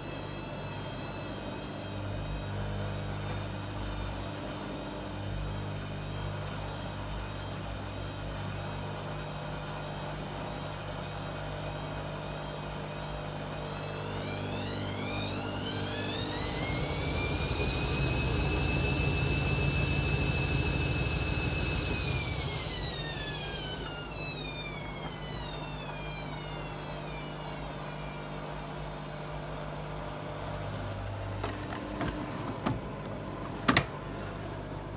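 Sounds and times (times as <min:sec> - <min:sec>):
washing machine motor whining: 0:00.0 - 0:34.8.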